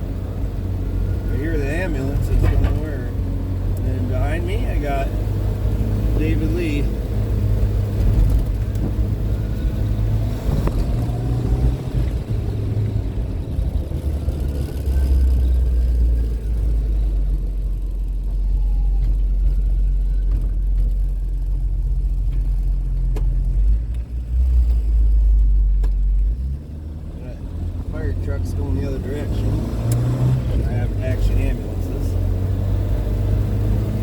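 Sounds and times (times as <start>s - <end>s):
car engine drone: 0.0s - 34.0s
road noise: 0.0s - 34.0s.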